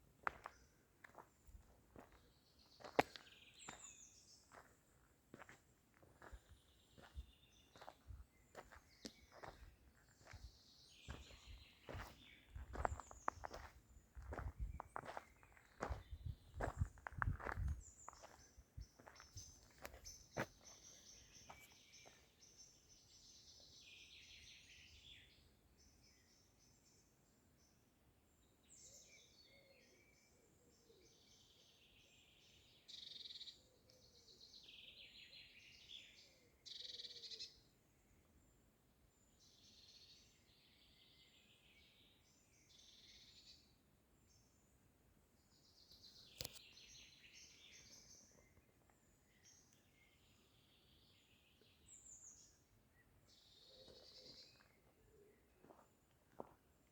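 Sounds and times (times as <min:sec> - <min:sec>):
birds singing faintly: 0:00.0 - 0:56.9.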